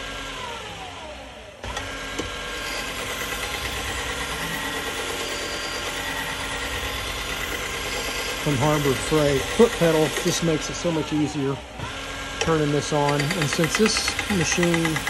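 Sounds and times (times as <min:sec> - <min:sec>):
motor whining: 0:00.0 - 0:15.0.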